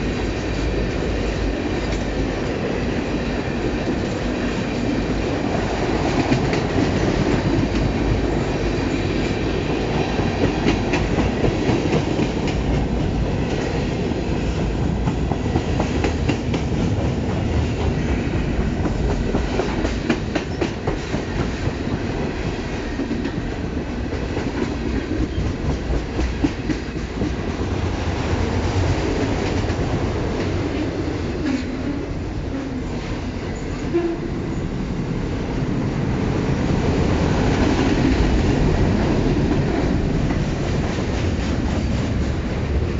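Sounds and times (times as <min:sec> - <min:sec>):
wheels clickety-clack on rail joints: 0:00.0 - 0:02.8, 0:03.6 - 0:34.6, 0:36.7 - 0:42.9
freight train wheels rumbling: 0:00.0 - 0:42.9.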